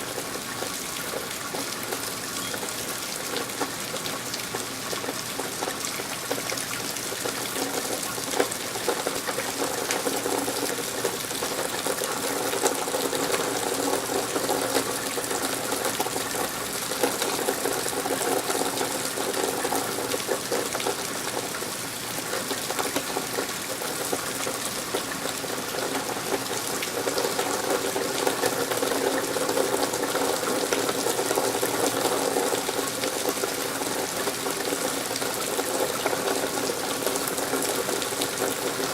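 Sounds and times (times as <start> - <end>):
steady rain falling: 0.0 - 38.9
water running and splashing: 0.0 - 38.9.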